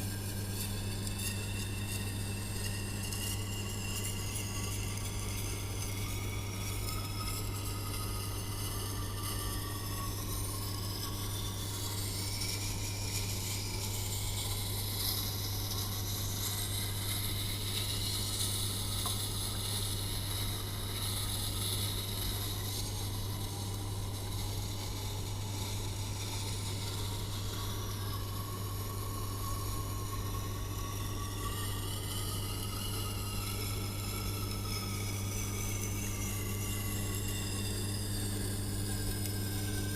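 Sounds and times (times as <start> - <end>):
grinder motor hum: 0.0 - 39.9.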